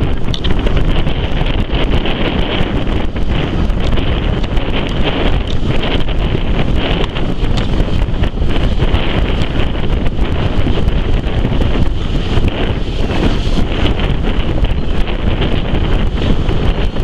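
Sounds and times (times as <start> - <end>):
train rumbling on track: 0.0 - 17.0
wind buffeting microphone: 0.0 - 17.0.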